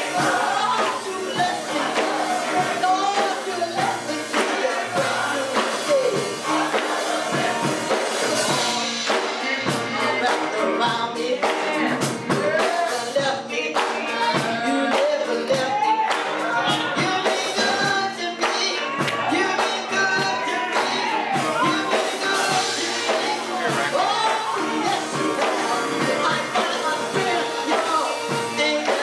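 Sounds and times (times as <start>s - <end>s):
percussion hits: 0.0s - 13.2s, 13.8s - 29.0s
instrumental accompaniment: 0.0s - 29.0s
voices singing gospel: 0.0s - 29.0s.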